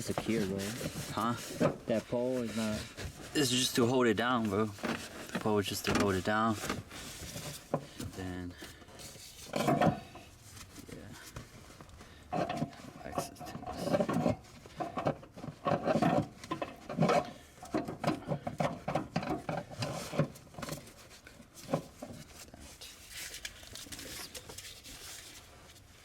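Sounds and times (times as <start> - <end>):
rubbing and scraping of parts: 0.0 - 26.0.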